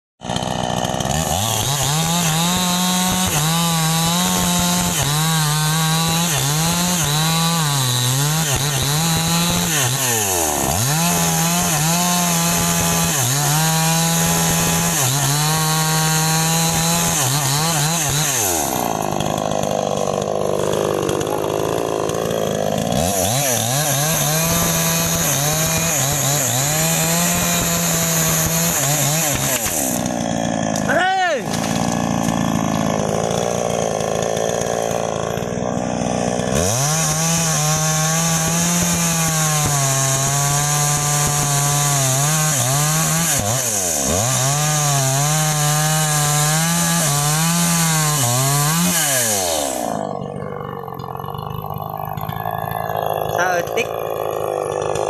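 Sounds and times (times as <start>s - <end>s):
chainsaw cutting wood: 0.2s - 55.0s.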